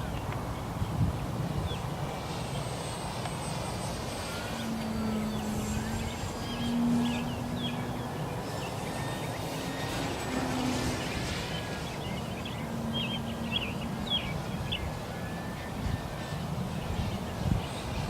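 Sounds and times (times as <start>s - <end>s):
birds chirping faintly: 0.0s - 18.0s
model plane motor humming: 0.0s - 18.0s
wind buffeting microphone: 0.0s - 18.0s.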